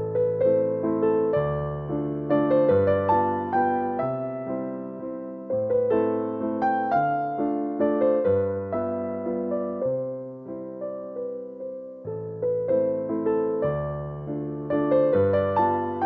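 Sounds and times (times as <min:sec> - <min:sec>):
electric piano melody: 0:00.0 - 0:16.0.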